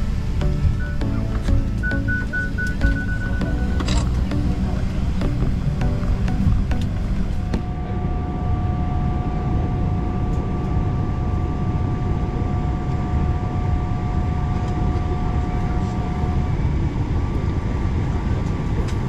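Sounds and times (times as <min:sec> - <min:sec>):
whining tones: 0:00.0 - 0:17.4
aircraft cabin low rumble: 0:00.0 - 0:19.0.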